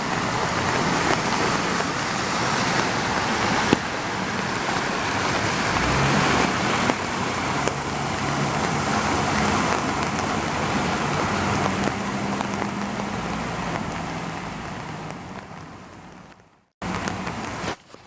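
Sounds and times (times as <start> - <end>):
car engine running: 0.0 - 17.8
heavy rain pouring: 0.0 - 18.0.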